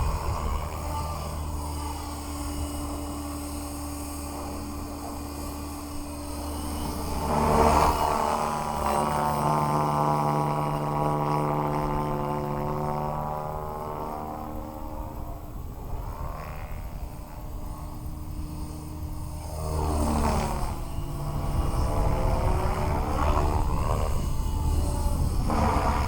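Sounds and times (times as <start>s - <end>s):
electric model helicopter whine: 0.0s - 26.0s.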